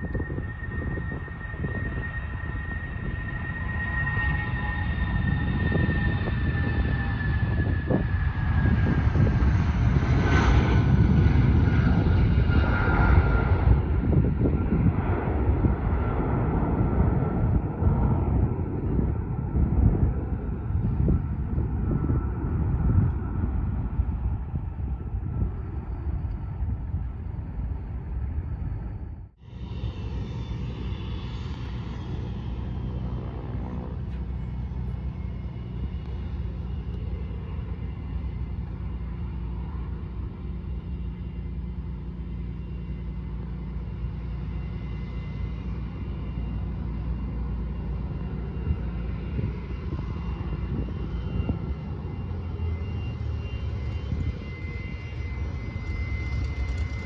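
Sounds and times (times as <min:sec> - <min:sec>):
jet airliner rumble: 0:00.0 - 0:57.0
jet engine high whine: 0:00.0 - 0:57.0.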